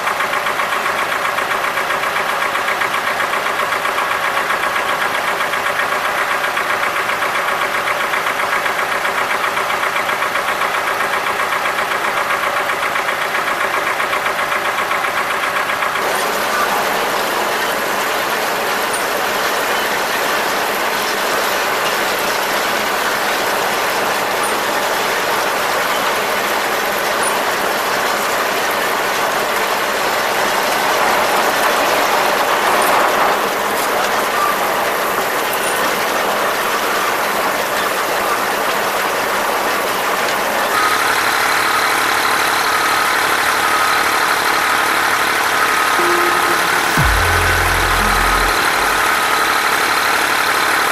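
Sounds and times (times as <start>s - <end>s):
tractor engine running steadily: 0.0s - 31.0s, 34.7s - 46.0s.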